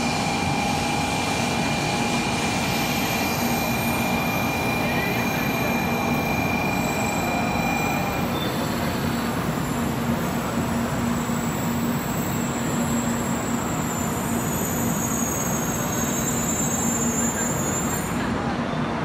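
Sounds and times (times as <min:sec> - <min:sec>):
thin high whine: 0:00.0 - 0:18.3
train wheel and running noise: 0:00.0 - 0:19.0.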